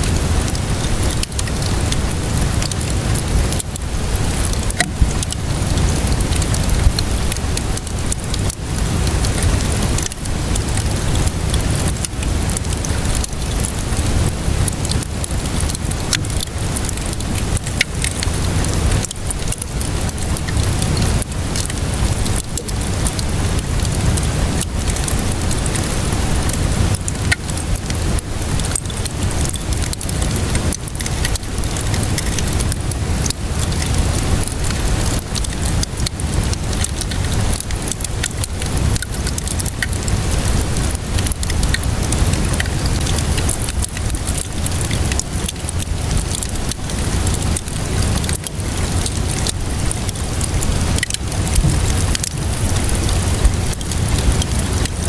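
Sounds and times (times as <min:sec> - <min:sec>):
crackling wood fire: 0:00.0 - 0:55.0
steady rain: 0:00.0 - 0:55.0.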